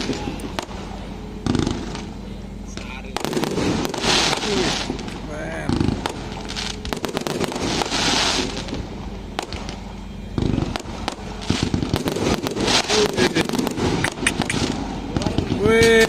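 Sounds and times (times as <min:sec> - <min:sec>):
fireworks bangs and pops: 0:00.0 - 0:02.1, 0:02.7 - 0:08.8, 0:09.4 - 0:09.8, 0:10.4 - 0:16.0
fireworks crackling: 0:00.0 - 0:16.0.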